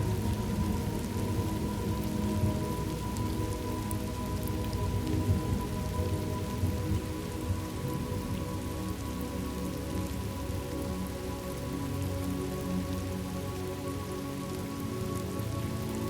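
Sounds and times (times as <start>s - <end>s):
raindrops ticking: 0.0s - 16.0s
steady rain falling: 0.0s - 16.0s.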